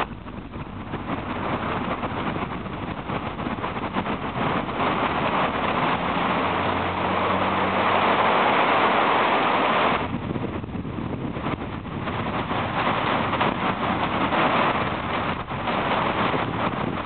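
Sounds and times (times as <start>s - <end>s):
storm wind gust: 0.0s - 17.0s.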